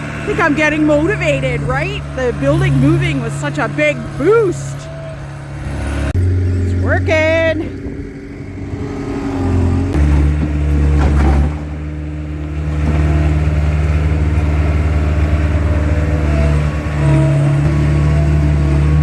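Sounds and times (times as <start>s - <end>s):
skid steer engine revving: 0.0s - 19.0s.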